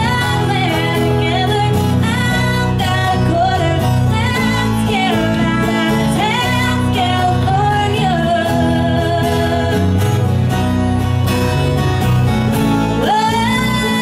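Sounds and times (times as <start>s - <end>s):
song with singing voice: 0.0s - 10.5s, 12.7s - 14.0s.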